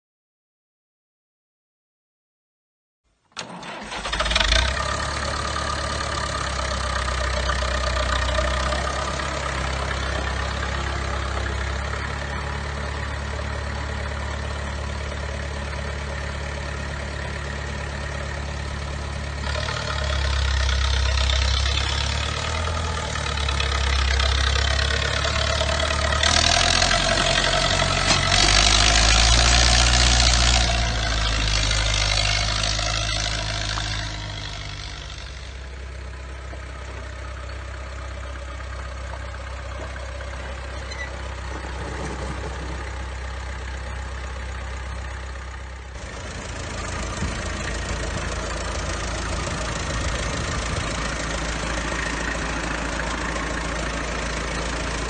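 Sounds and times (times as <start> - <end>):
tractor diesel engine running: 3.4 - 55.0.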